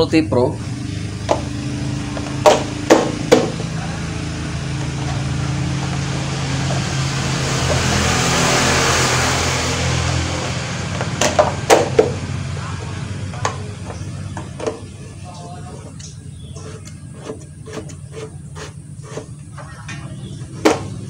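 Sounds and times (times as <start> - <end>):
engine-like hum: 0.0 - 21.0.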